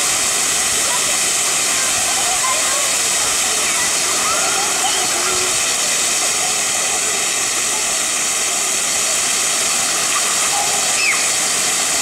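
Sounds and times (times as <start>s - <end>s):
fountain jets spraying water: 0.0s - 12.0s.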